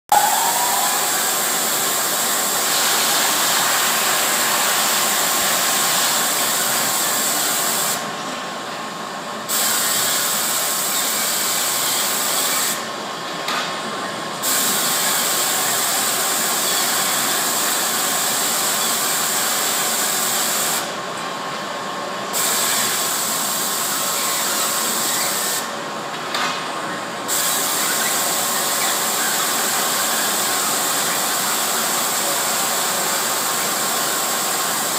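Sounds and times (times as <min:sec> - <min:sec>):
sewing machine whirr and hiss: 0:00.1 - 0:26.2, 0:26.8 - 0:34.9.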